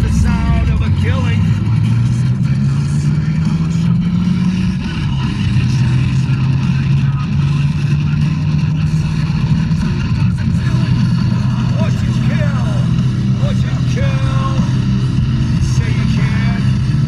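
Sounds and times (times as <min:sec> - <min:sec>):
car engine droning inside cabin: 0:00.0 - 0:17.0.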